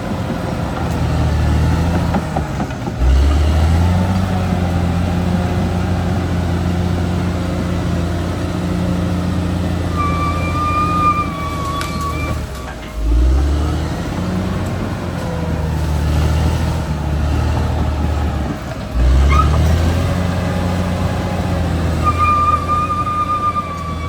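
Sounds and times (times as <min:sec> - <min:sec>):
bulldozer diesel engine revving: 0:00.0 - 0:24.0.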